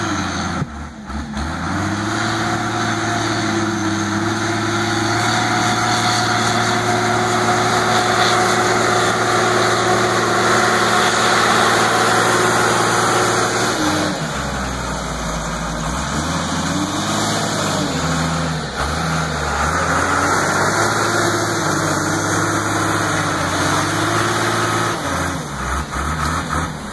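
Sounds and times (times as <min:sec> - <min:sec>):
wheel loader diesel engine: 0:00.0 - 0:26.9.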